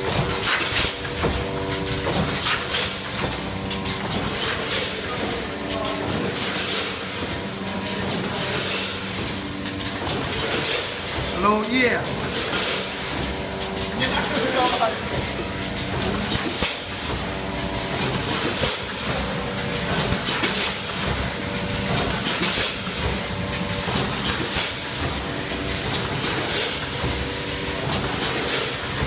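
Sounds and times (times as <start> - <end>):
packaging machine humming: 0.0 - 29.0.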